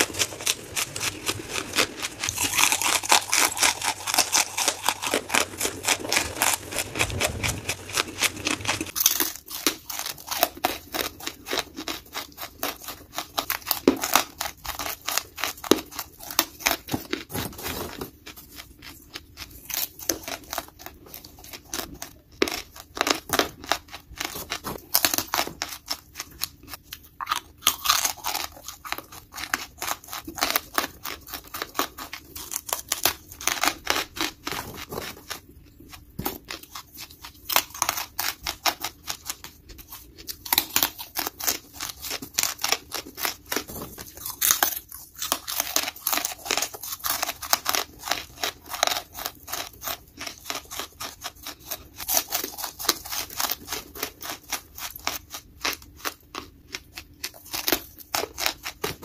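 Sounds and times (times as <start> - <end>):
charcoal crunching when chewed: 0.0 - 59.0.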